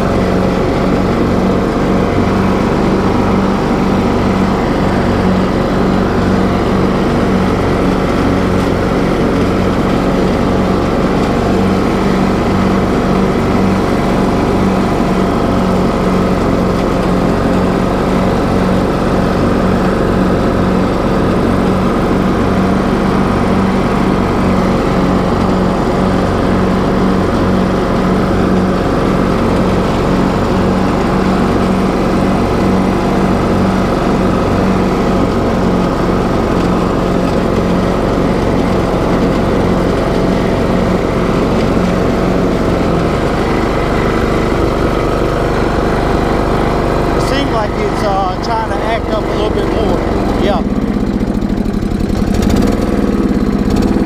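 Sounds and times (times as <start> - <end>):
riding lawn mower engine running: 0.0 - 54.0.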